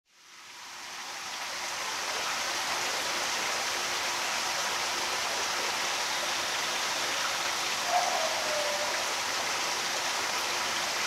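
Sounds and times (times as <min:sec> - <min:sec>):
rushing water-like hiss: 0:00.1 - 0:11.0.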